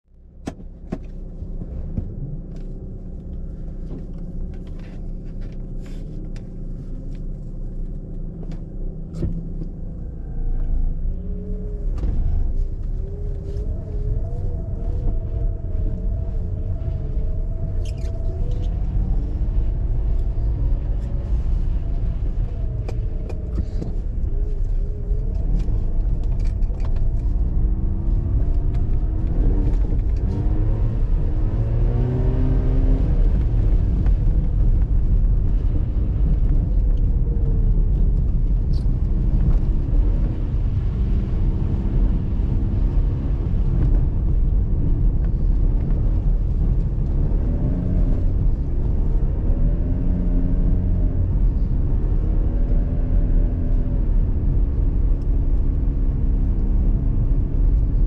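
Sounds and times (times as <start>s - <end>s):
rotary car engine revving: 7.9s - 58.0s.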